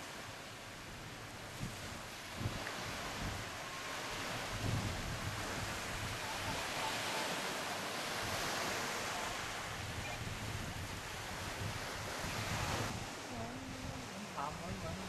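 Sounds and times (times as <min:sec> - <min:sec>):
waves washing on beach: 0:00.0 - 0:15.0
wind buffeting microphone: 0:00.1 - 0:15.0.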